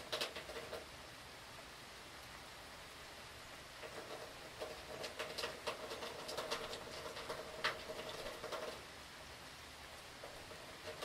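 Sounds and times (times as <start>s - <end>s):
faint rain hiss: 0.0s - 11.0s
rain dripping on hard surface: 0.0s - 11.0s.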